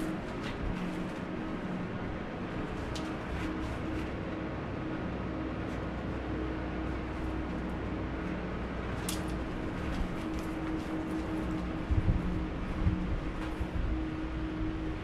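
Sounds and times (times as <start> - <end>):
faint constant tone: 0.0 - 15.0
low mechanical hum: 0.0 - 15.0.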